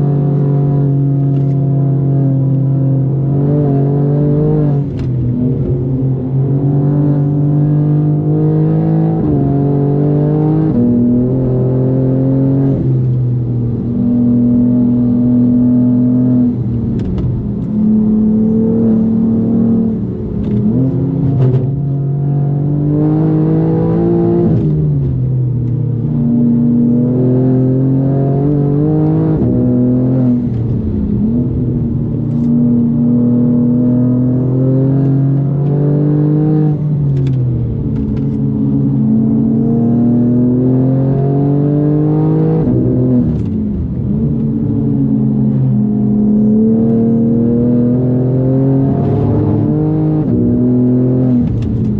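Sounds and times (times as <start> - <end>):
car engine revving through gears: 0.0 - 51.9.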